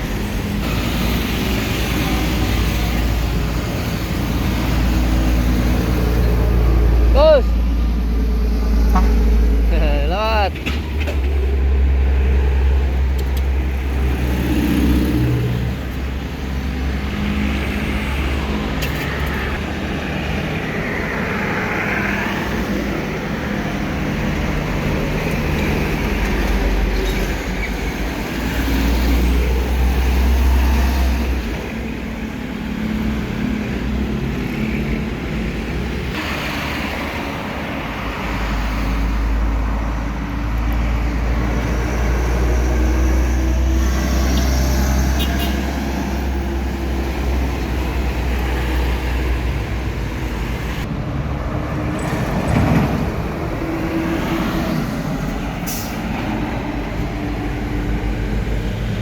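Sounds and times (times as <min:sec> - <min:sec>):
trucks passing with deep rumble: 0:00.0 - 0:59.0.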